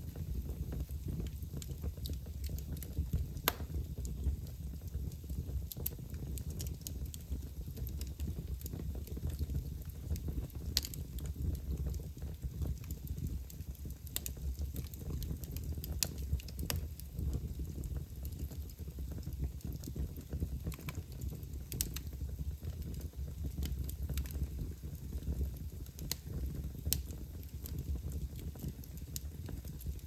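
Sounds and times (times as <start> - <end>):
fire crackling and popping: 0.0 - 30.0
low fire rumble: 0.0 - 30.0.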